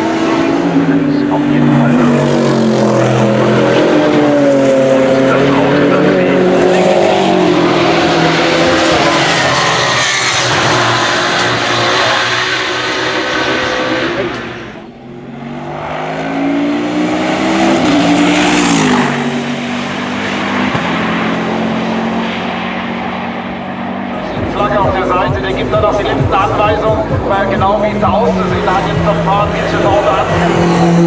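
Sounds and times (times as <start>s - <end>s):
race car engines at full throttle: 0.0s - 31.0s.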